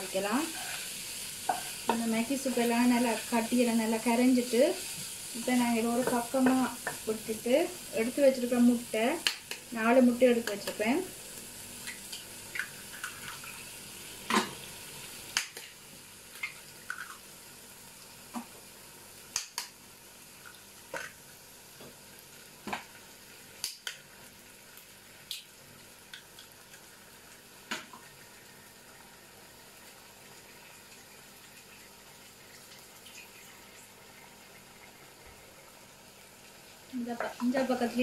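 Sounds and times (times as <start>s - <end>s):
vegetables sizzling in a pan: 0.0s - 38.0s.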